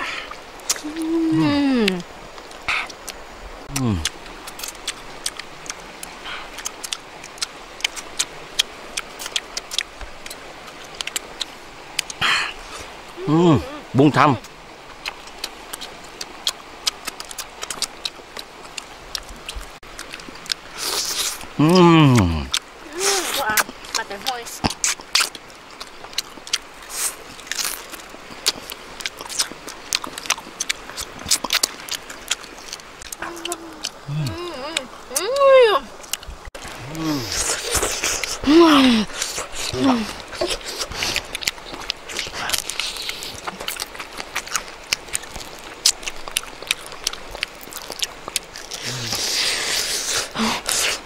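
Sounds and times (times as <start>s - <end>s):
man chewing food: 0.0s - 13.2s, 14.4s - 35.3s, 35.9s - 51.0s.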